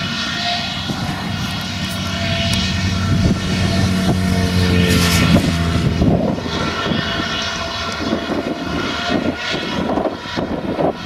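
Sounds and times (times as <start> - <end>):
tractor engine: 0.0 - 9.6
forage harvester droning: 0.0 - 11.0.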